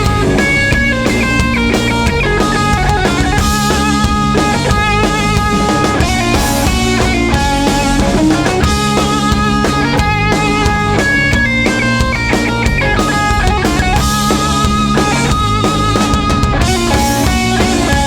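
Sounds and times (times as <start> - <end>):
bass guitar: 0.0 - 18.0
distorted electric guitars: 0.0 - 18.0
steady drum beat: 0.0 - 18.0.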